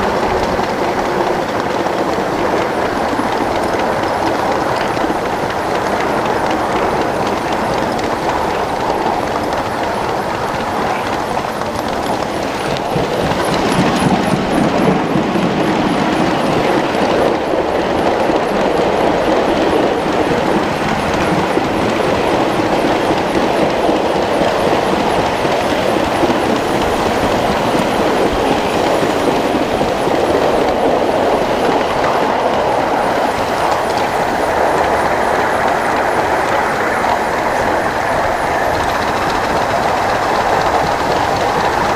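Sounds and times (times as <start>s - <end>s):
train wheels rolling on rails: 0.0s - 41.9s.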